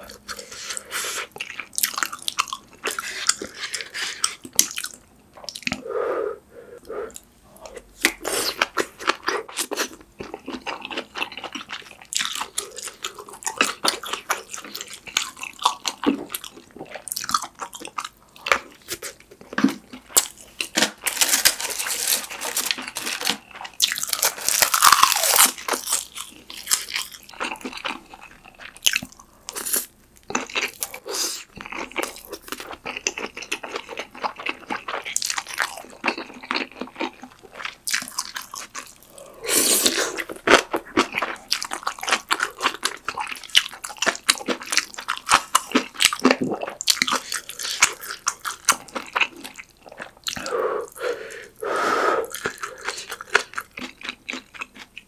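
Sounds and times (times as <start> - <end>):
chewing and crunching food: 0.0 - 5.8, 7.1 - 51.6, 52.2 - 55.0.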